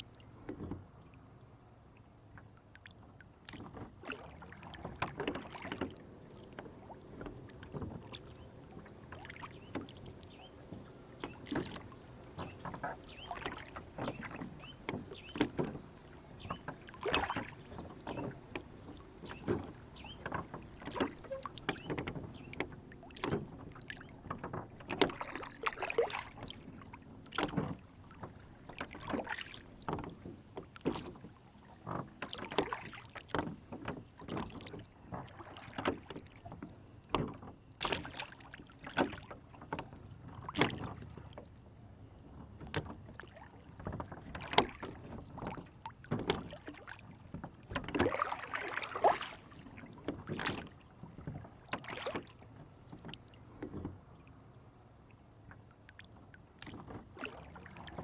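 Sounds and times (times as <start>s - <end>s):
water lapping against boat hull: 0.0s - 58.0s
light knocks on hull: 0.4s - 0.9s, 4.8s - 41.4s, 42.6s - 54.0s.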